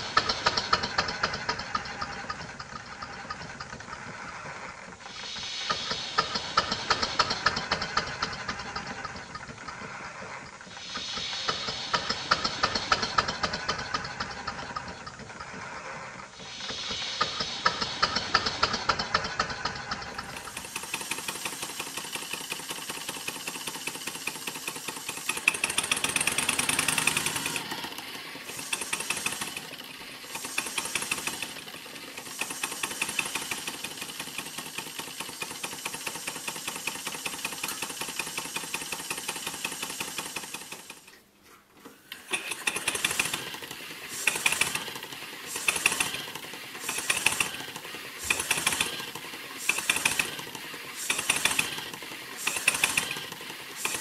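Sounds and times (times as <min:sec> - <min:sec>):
model steam engine clattering: 0:00.0 - 0:54.0.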